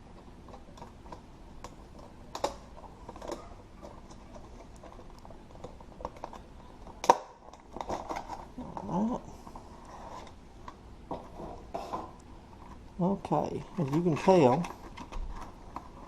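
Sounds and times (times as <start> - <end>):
packaging clicks and crinkles: 0.4 - 11.2, 13.5 - 16.0.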